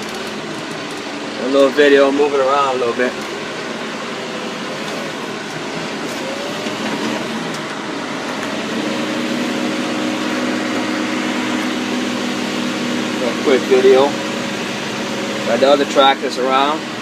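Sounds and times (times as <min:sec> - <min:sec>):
tractor engine from cab: 0:00.0 - 0:17.0.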